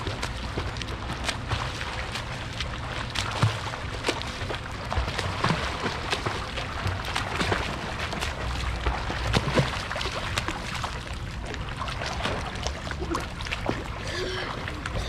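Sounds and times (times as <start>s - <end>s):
swimmer splashing water: 0.0s - 15.0s.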